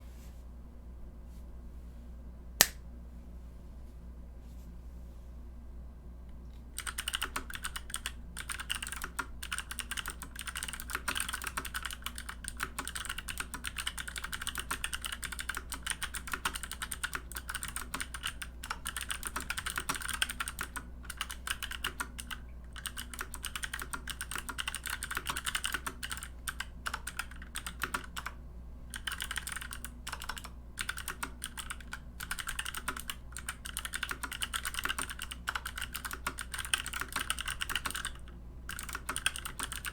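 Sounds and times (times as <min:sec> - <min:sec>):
steady low hum: 0:00.0 - 0:39.9
typing on mechanical keyboard: 0:06.8 - 0:39.9.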